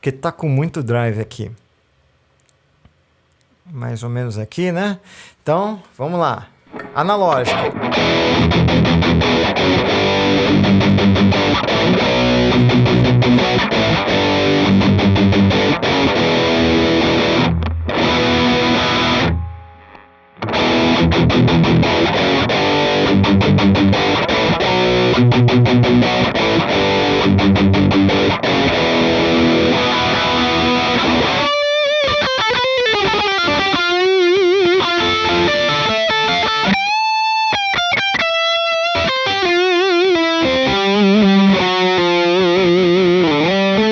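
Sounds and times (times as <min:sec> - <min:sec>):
distorted electric guitar riffs: 0:06.7 - 0:43.9
guitar lead notes with vibrato: 0:06.7 - 0:43.9.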